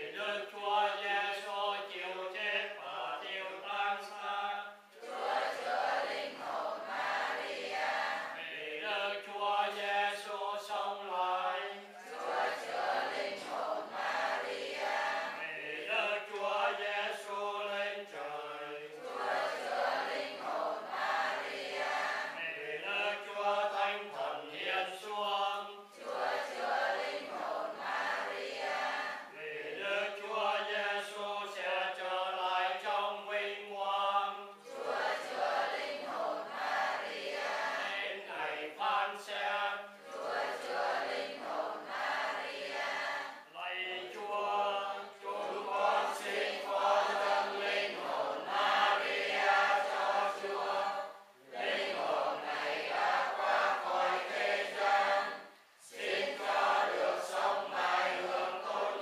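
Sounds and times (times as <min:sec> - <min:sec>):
congregation chanting prayers: 0:00.0 - 0:59.0.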